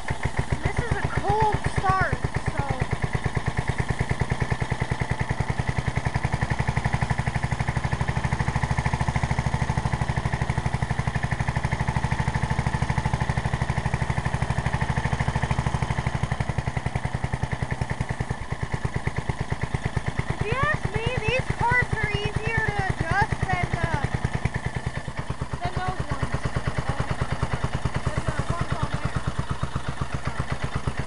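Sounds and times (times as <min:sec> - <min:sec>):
riding lawn mower engine idling: 0:00.0 - 0:31.0.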